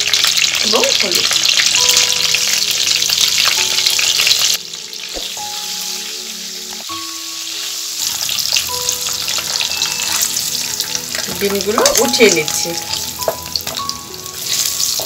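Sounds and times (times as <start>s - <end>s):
eggs sizzling in oil: 0.0s - 15.0s.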